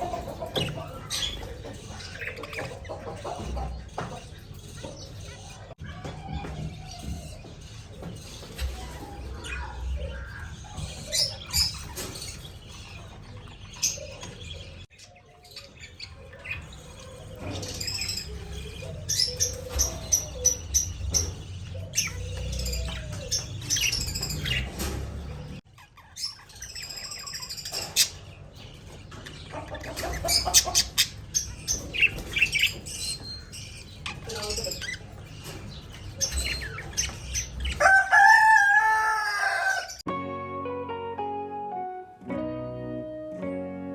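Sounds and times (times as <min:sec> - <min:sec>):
budgerigars chirping and squawking: 0:00.0 - 0:40.0.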